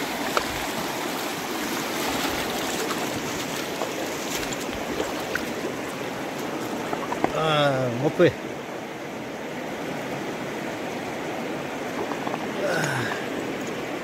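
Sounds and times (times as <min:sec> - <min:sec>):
river flowing over stones: 0:00.0 - 0:14.0.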